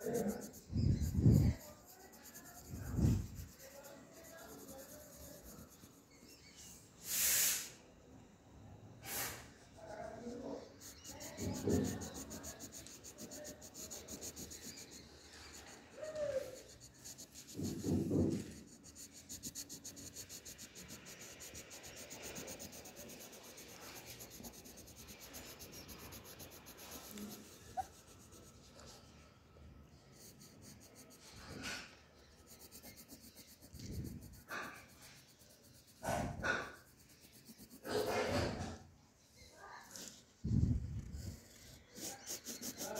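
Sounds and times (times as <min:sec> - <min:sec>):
pencil scribbling on paper: 0:00.0 - 0:06.7, 0:09.0 - 0:38.8, 0:41.0 - 0:42.9.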